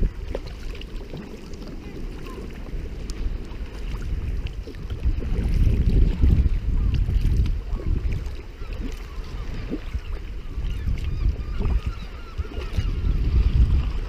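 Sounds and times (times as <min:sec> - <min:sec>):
water lapping and splashing: 0:00.0 - 0:14.0
wind buffeting microphone: 0:00.0 - 0:14.0.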